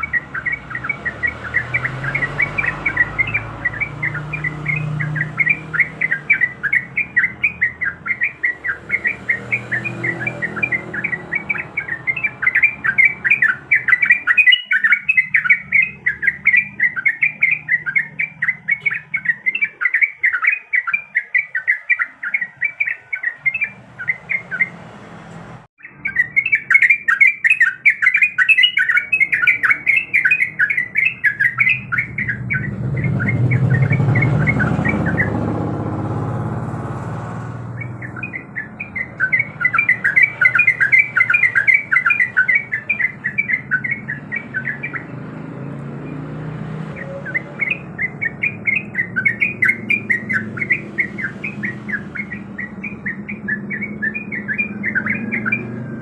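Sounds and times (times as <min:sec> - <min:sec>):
bird chattering song: 0:00.0 - 0:25.0, 0:25.8 - 0:56.0.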